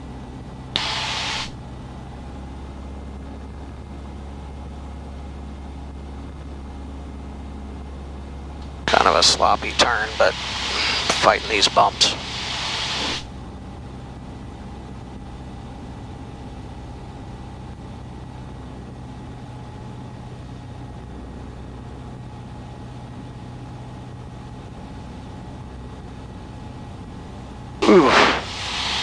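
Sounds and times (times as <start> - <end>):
airplane engine and propeller droning: 0.0 - 29.0.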